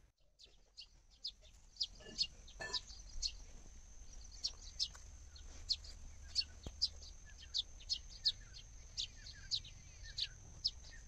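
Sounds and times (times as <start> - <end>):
birds chirping: 0.0 - 11.0
faint high-pitched whine: 0.0 - 11.0.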